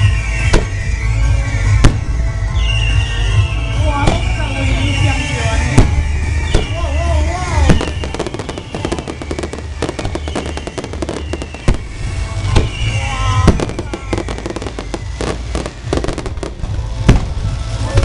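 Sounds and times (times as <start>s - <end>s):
fireworks booming: 0.0s - 18.0s
fireworks crackling: 0.0s - 18.0s.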